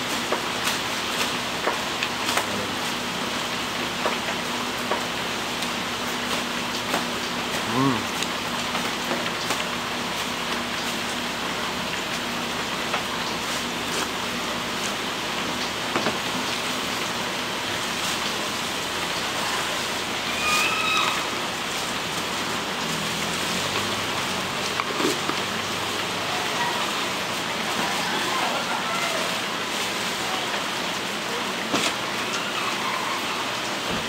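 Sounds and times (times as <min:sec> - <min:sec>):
rain-like hiss: 0:00.0 - 0:34.0.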